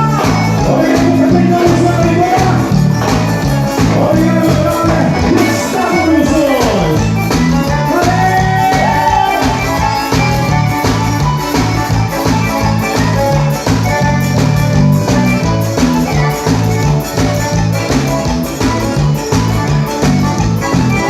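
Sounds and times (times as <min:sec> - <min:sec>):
band music with pulsing bass: 0:00.0 - 0:21.0.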